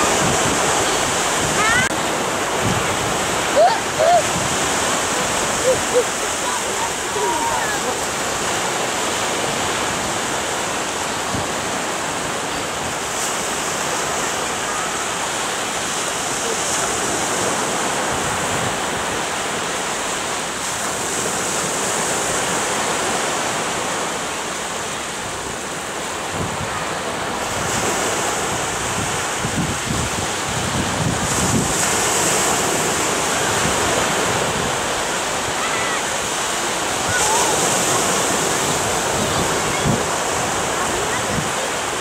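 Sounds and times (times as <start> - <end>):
wind buffeting microphone: 0.0 - 19.7, 25.2 - 42.0
surf washing onto sandy beach: 0.0 - 42.0.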